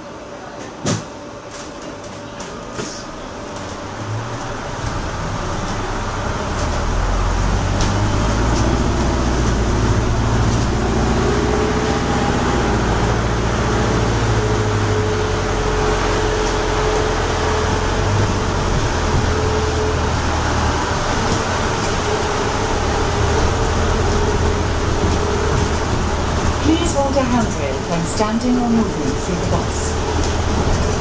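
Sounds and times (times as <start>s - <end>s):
bus drivetrain rumble: 0.0s - 31.0s
road noise: 1.4s - 31.0s.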